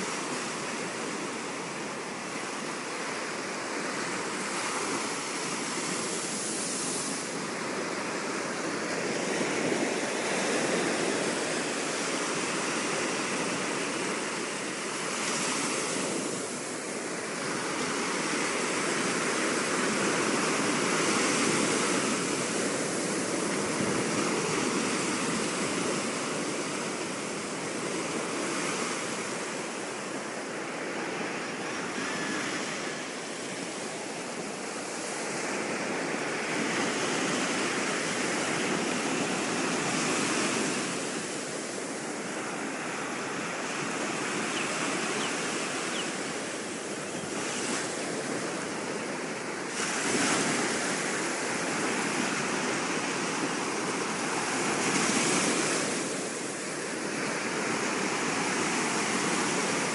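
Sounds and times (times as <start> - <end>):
surf breaking on a beach: 0.0 - 59.9.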